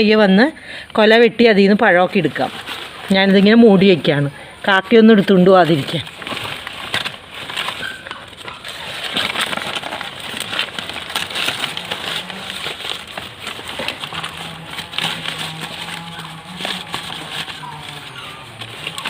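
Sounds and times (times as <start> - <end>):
dry leaves rustling and crackling: 1.1 - 19.0.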